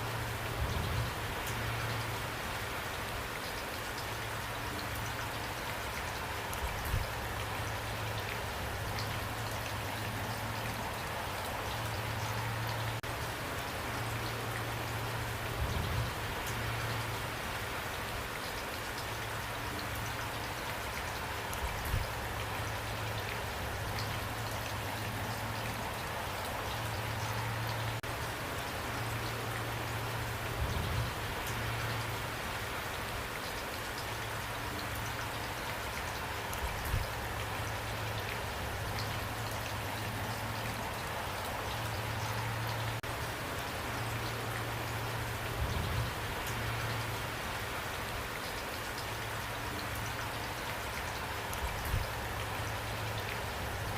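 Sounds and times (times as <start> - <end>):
raindrops ticking: 0.0 - 53.9
steady rain hiss: 0.0 - 53.9.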